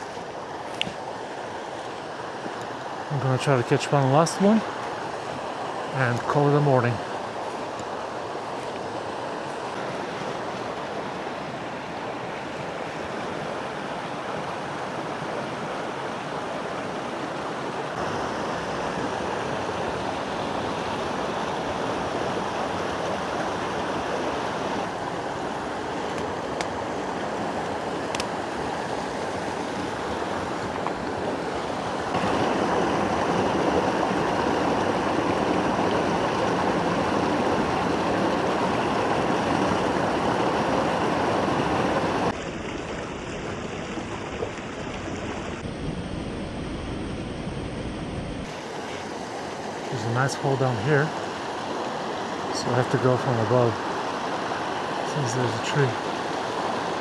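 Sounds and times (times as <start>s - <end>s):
creek running over rocks: 0.0s - 45.7s, 48.4s - 57.0s.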